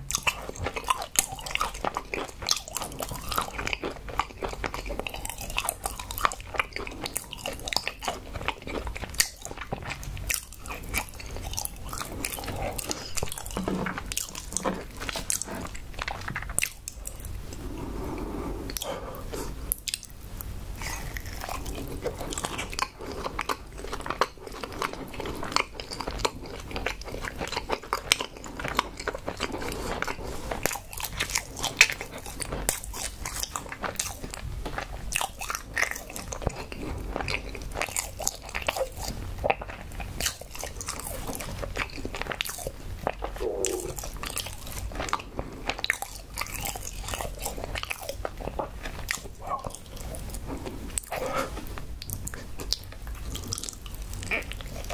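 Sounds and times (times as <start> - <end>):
person biting and chewing: 0.0 - 17.3, 20.8 - 54.9.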